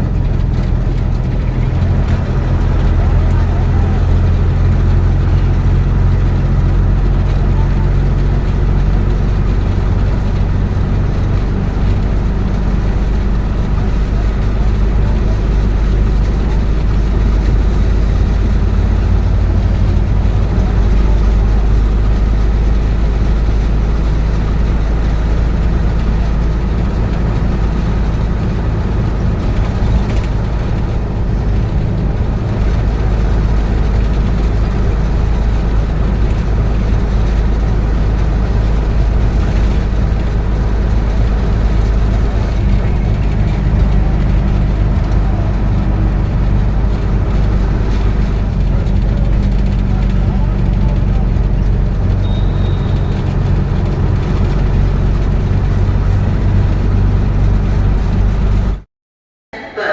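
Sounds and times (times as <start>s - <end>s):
vehicle engine and road rumble: 0.0s - 58.9s.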